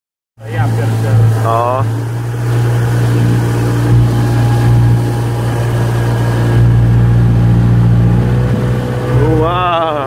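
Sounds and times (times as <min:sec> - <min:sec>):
motorboat engine droning: 0:00.4 - 0:10.0
water noise from hull: 0:00.4 - 0:10.0.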